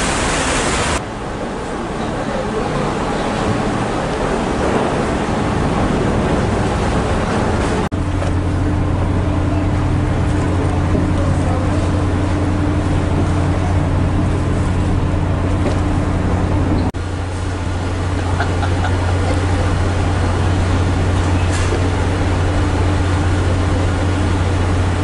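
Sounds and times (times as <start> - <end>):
diesel engine humming: 0.0 - 25.0
water noise: 0.0 - 25.0
wind: 0.0 - 25.0.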